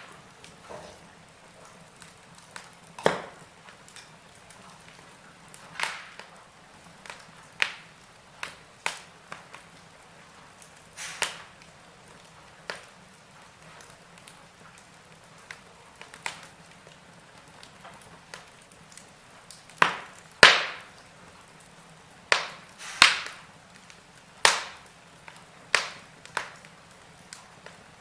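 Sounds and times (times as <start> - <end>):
faint steady background noise: 0.0 - 28.0
wood fire crackling and popping: 0.0 - 28.0.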